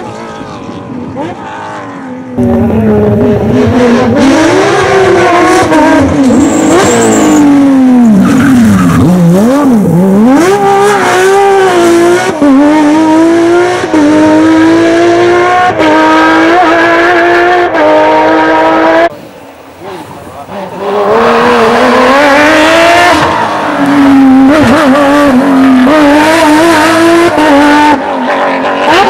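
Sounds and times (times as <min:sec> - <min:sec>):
racing engine at high revs: 0:00.0 - 0:19.2, 0:19.8 - 0:29.0.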